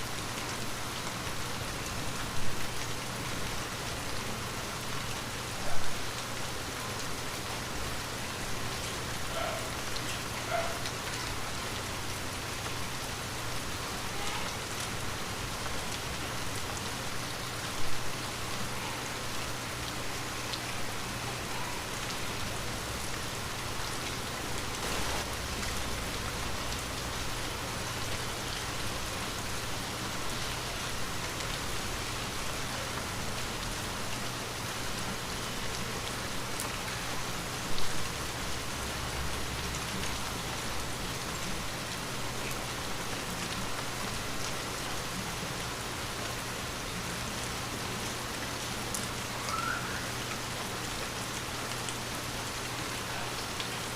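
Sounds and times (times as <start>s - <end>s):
light rain falling: 0.0s - 53.9s
raindrops pattering: 0.0s - 53.9s.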